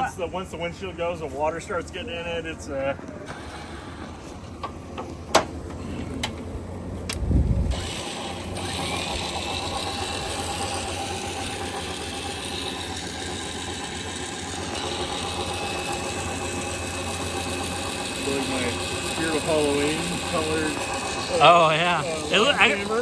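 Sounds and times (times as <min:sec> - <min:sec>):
vehicle engine starting and idling: 0:00.3 - 0:23.0.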